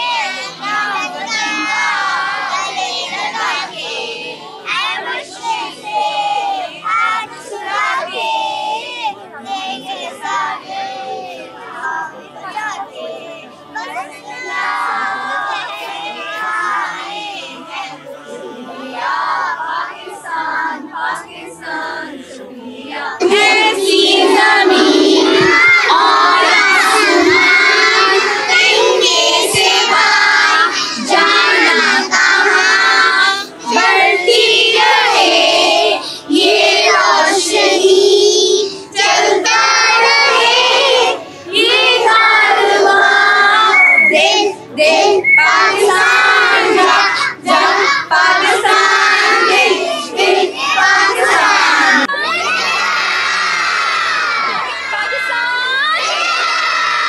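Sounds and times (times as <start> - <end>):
children singing and shouting: 0.0 - 57.0.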